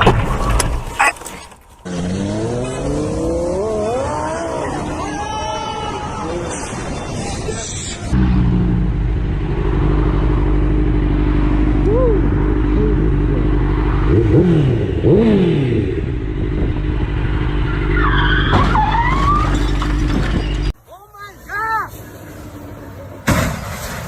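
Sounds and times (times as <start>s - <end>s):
road vehicle driving drone: 0.0s - 20.8s, 21.4s - 24.0s.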